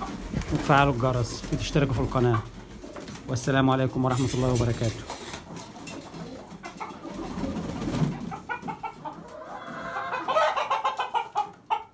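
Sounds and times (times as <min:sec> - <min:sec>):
pigeons cooing: 0:00.0 - 0:11.8
hens clucking: 0:00.0 - 0:11.9.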